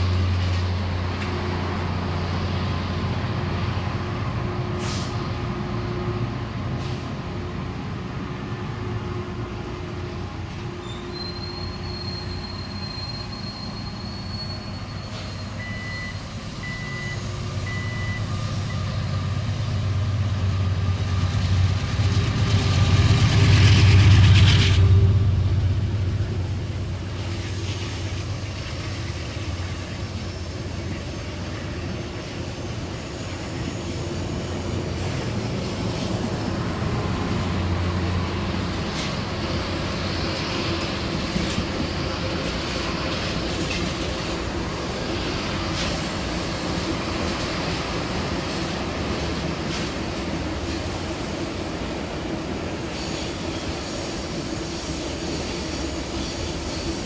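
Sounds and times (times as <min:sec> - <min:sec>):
train passing by: 0:00.0 - 0:57.0.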